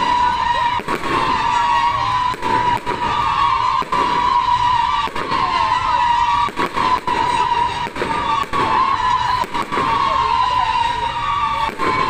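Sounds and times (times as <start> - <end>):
fireworks rockets whistling: 0.0 - 12.0.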